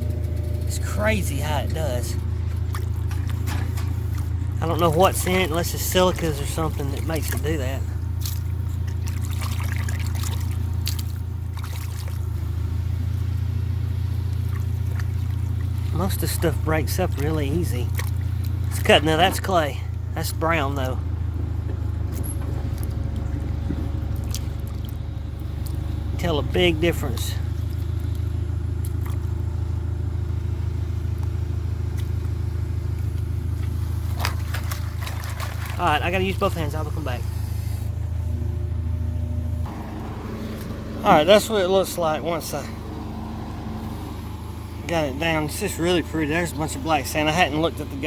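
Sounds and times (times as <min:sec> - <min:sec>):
low motor drone: 0:00.0 - 0:48.0
water splashing and trickling: 0:00.0 - 0:48.0.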